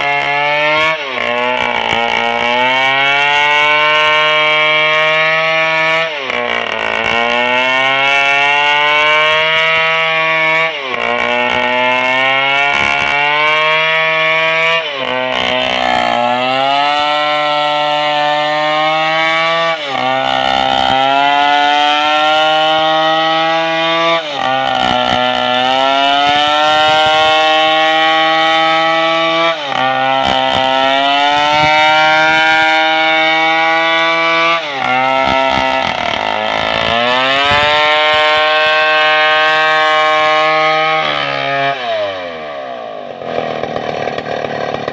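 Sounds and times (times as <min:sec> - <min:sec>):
chainsaw ripping a log: 0:00.0 - 0:44.9.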